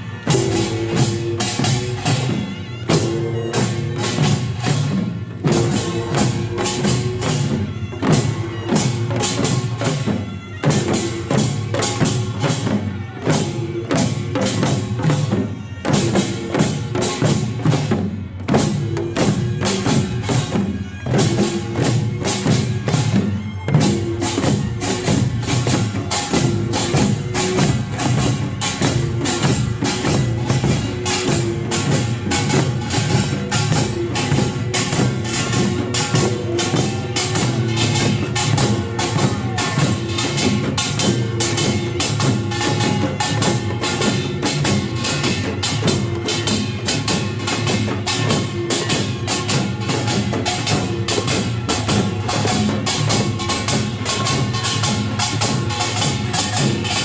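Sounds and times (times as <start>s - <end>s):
barrel drums: 0.0s - 57.0s
hourglass drums: 0.0s - 57.0s
large gongs: 0.0s - 57.0s
small gongs: 0.2s - 57.0s.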